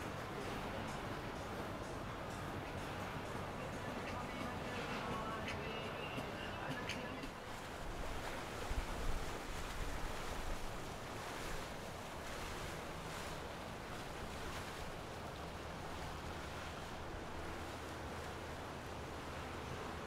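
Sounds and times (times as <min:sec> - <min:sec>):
water rushing along boat hull: 0:00.0 - 0:20.0.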